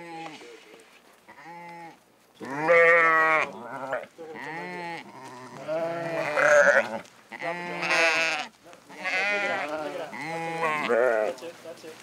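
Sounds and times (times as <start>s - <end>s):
goats and sheep bleating: 0.0s - 0.6s, 1.3s - 11.5s.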